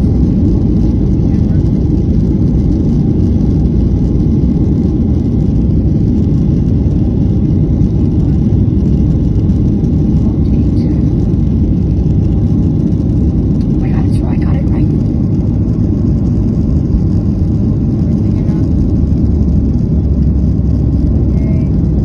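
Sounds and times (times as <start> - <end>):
aircraft cabin rumble: 0.0 - 22.0.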